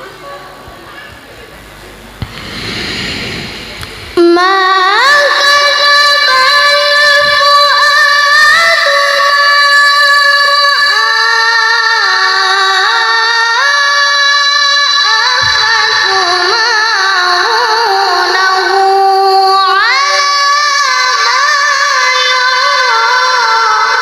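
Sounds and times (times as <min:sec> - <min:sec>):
child reciting melodically: 0:04.2 - 0:24.0.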